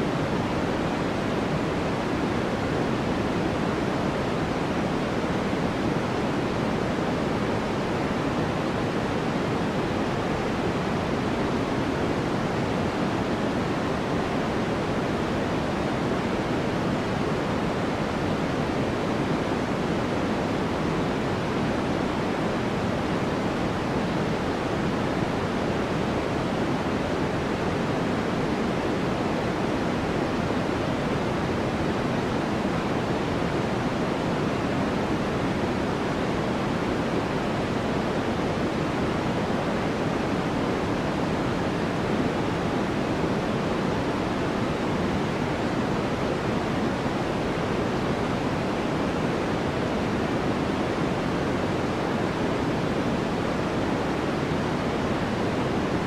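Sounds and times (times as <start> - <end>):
white noise rush: 0.0 - 56.0.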